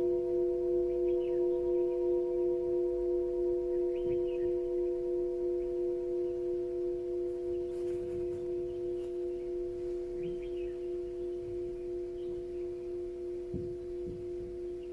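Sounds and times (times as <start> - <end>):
singing bowl ringing: 0.0 - 14.9
small birds chirping: 0.4 - 14.9.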